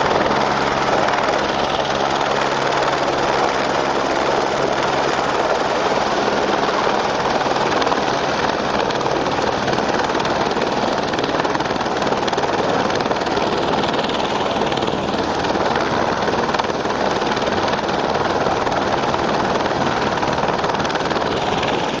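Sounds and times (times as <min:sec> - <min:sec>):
helicopter rotor and turbine engine: 0:00.0 - 0:22.0.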